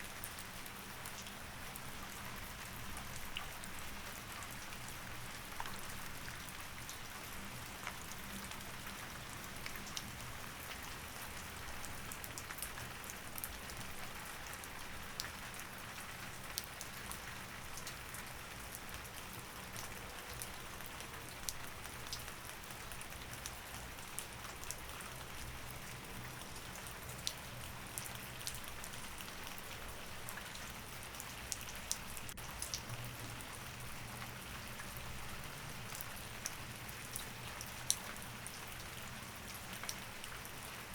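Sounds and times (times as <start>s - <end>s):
rain drops ticking on hard surface: 0.2s - 40.9s.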